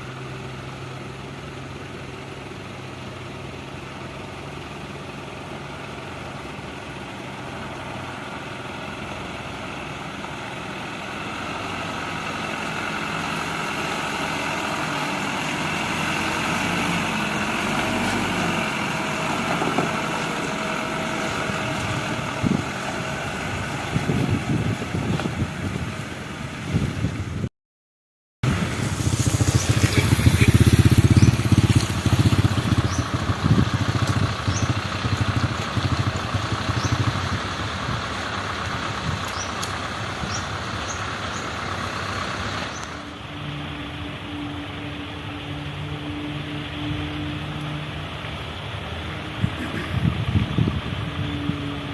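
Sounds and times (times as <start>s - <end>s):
heavy machinery engines running: 0.0s - 27.4s, 28.5s - 51.9s.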